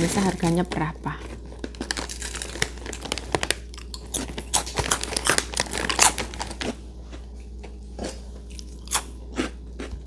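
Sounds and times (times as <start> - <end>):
chips crunching: 0.0 - 10.0.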